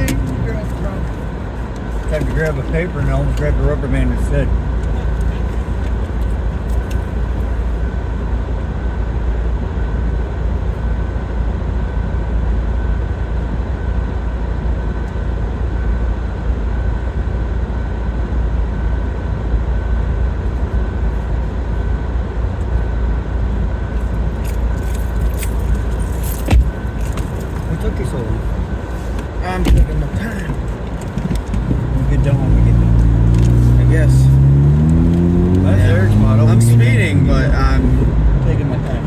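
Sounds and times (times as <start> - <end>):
car engine and tyres rumbling: 0.0 - 39.0
faint steady whine: 0.0 - 39.0.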